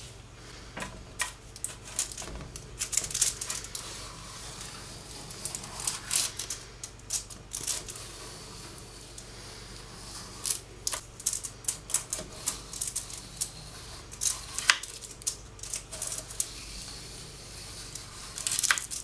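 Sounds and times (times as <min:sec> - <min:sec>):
knife scraping through candy: 0:01.6 - 0:19.0.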